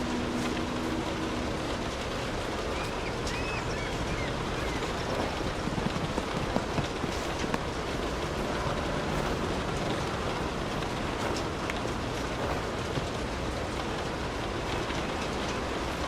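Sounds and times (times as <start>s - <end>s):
low hum: 0.0s - 16.0s
raindrops ticking close by: 0.0s - 16.0s
steady rain falling: 0.0s - 16.0s.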